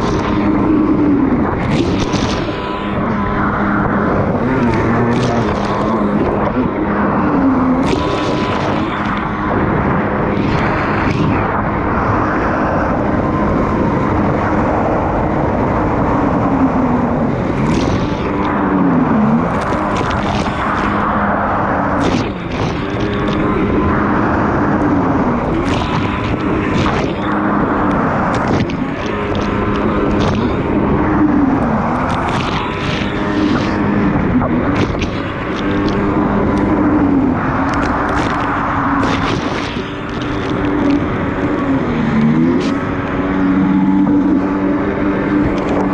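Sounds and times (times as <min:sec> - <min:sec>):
jet ski engine revving: 0:00.0 - 0:45.9.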